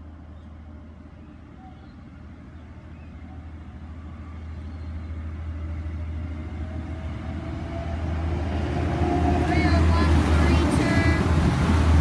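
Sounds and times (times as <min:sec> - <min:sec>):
diesel train engine and track rumble: 0:00.0 - 0:12.0.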